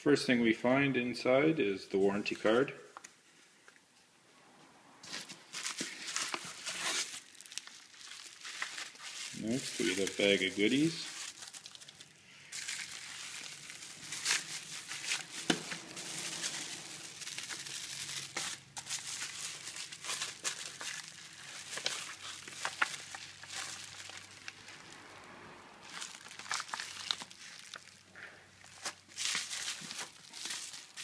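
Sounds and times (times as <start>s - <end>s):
packaging crinkling and rustling: 5.0s - 25.0s, 25.8s - 31.0s.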